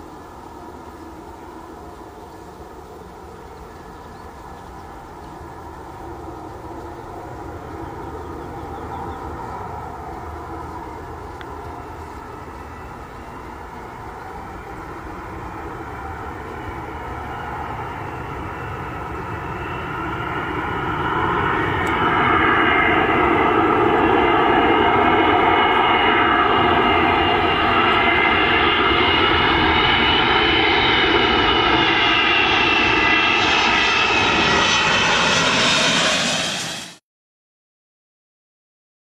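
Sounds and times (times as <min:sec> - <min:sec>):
jet engines roaring overhead: 0:00.0 - 0:37.0.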